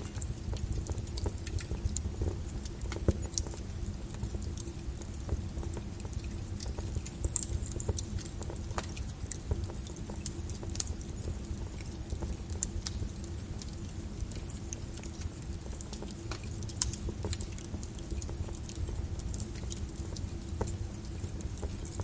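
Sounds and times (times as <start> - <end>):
faint steady hum: 0.0 - 22.0
wood fire crackling: 0.0 - 22.0.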